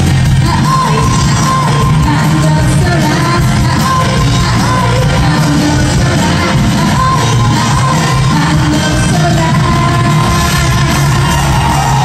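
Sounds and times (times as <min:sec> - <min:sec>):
loud instrumental backing music: 0:00.0 - 0:12.0
woman singing into a microphone: 0:00.2 - 0:11.2.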